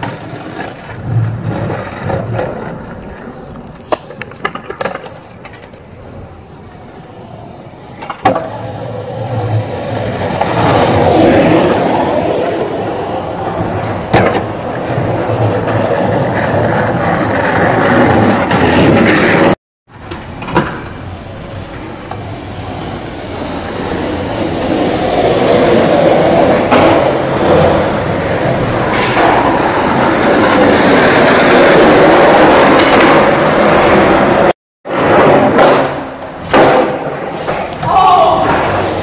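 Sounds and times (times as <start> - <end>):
sharp skateboard clack: 0.0 - 5.9, 7.9 - 12.9, 13.5 - 39.0
skateboard wheels rolling on asphalt: 0.0 - 39.0.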